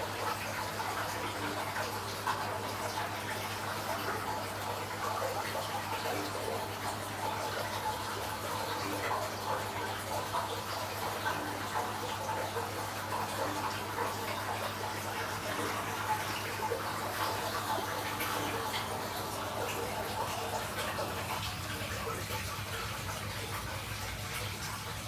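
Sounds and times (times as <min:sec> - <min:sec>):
bubbles crackling: 0:00.0 - 0:25.0
pump humming: 0:00.0 - 0:25.0
water churning and bubbling: 0:00.0 - 0:25.0.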